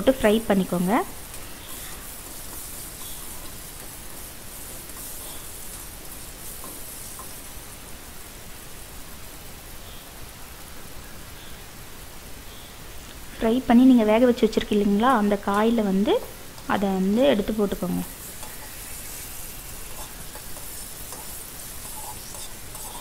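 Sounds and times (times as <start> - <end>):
chillies sizzling in hot oil: 0.0 - 23.0.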